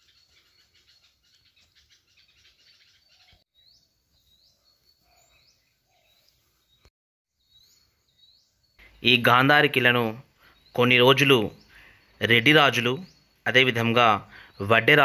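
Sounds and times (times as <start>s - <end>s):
rapid high bird chirping: 0.0s - 15.0s.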